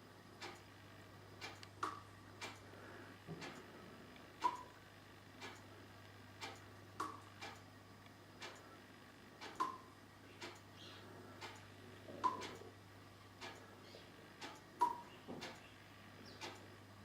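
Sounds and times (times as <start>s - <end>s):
low steady hum: 0.0s - 17.0s
faint regular ticking: 0.4s - 0.8s, 1.4s - 2.7s, 3.4s - 8.8s, 9.4s - 16.7s.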